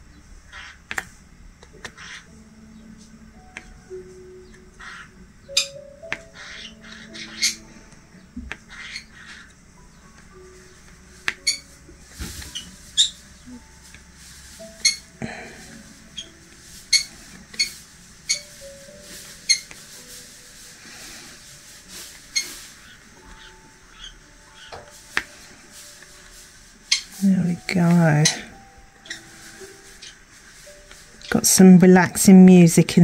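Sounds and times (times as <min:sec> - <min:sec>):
relaxing background music: 0:00.0 - 0:33.0.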